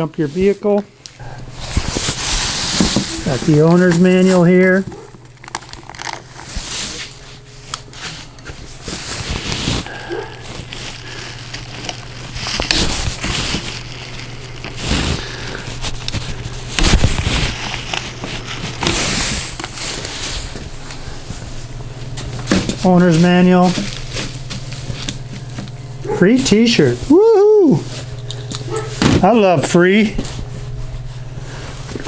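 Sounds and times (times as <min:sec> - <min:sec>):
paper and plastic packaging crinkling: 0:00.2 - 0:27.2, 0:27.8 - 0:32.0.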